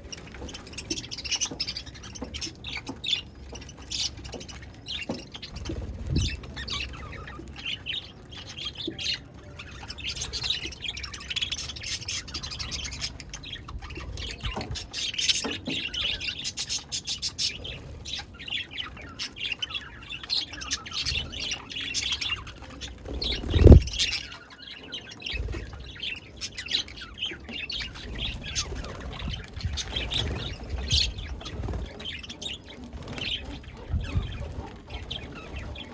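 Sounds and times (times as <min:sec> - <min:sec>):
budgerigars chattering and chirping: 0:00.0 - 0:35.9.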